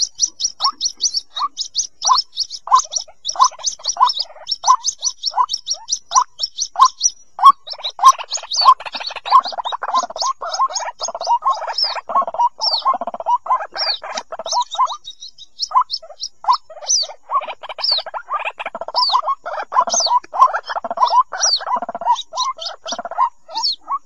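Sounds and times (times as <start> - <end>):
chicks peeping: 0.0 - 24.0
lower raspy bird calls: 0.0 - 24.0.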